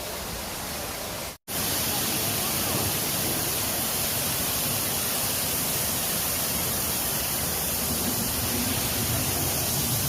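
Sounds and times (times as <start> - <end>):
steady rushing noise: 1.4 - 10.0.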